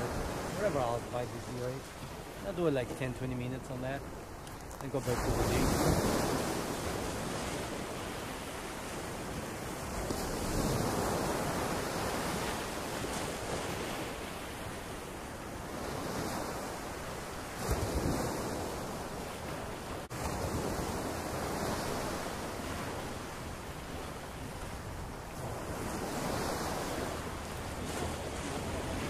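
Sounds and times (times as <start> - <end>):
surf washing over sand: 0.0 - 29.0
wind buffeting microphone: 0.0 - 29.0.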